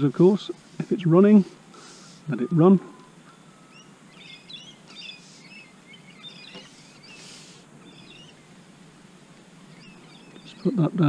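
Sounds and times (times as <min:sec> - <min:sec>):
faint background hiss: 0:00.0 - 0:11.0
small birds chirping: 0:00.0 - 0:11.0.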